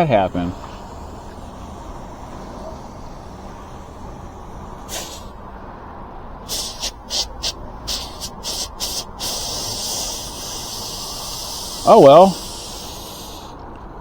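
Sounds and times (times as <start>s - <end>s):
air hissing from tyre valve: 0.0s - 14.0s.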